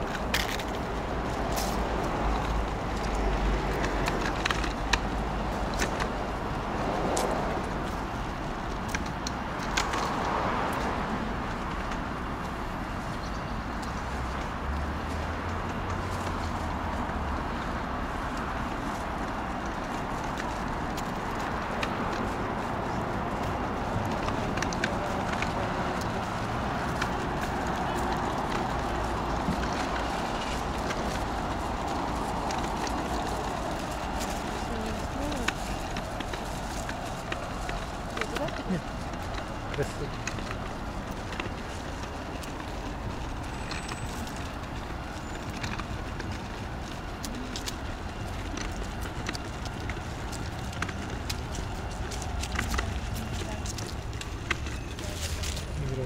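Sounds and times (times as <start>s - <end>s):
road traffic hum: 0.0s - 56.0s.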